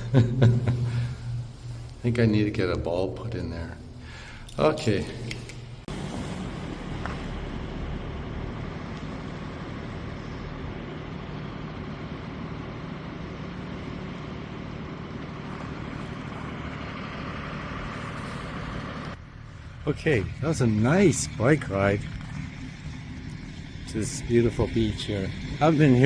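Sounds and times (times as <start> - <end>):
traffic rumble: 0.0 - 26.0
road noise from bicycle: 0.8 - 2.6, 3.6 - 26.0.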